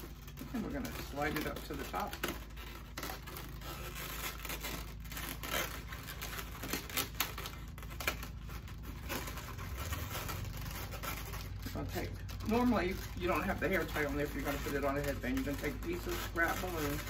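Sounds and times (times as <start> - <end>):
balloons rubbing and crinkling: 0.0 - 17.0.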